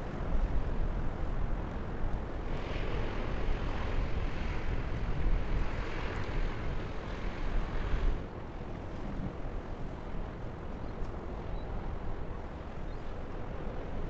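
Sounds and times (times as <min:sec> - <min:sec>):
water wash from boats: 0:00.0 - 0:14.0
wind on microphone: 0:00.0 - 0:14.0.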